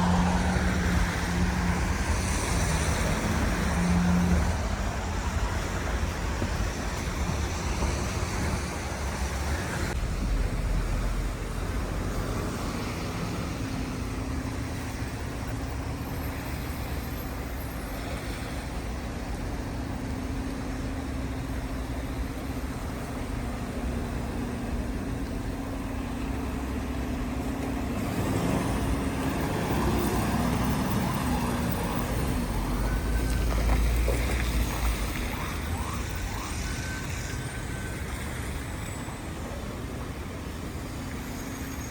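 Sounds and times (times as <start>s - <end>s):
street traffic passing: 0.0s - 41.9s.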